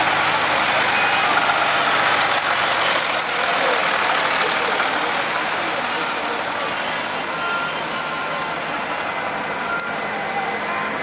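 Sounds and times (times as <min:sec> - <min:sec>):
vehicle engine running at low revs: 0:00.0 - 0:11.0
faint voices: 0:00.3 - 0:11.0.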